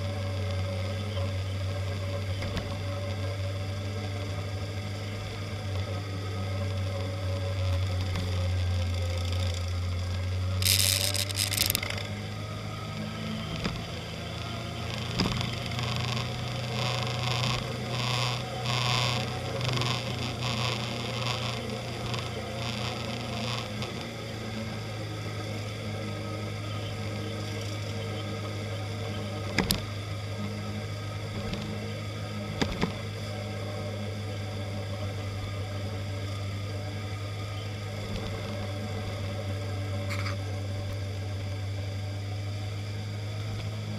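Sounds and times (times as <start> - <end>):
motorcycle engine drone: 0.0 - 43.9.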